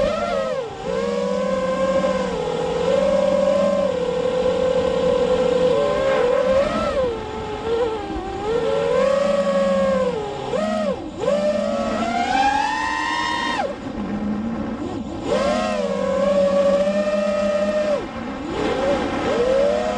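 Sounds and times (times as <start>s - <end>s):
quadcopter motors whining: 0.0s - 19.9s.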